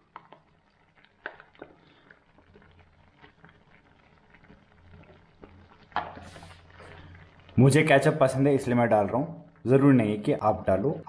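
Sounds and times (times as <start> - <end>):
noodles simmering in a pan: 0.0 - 11.0.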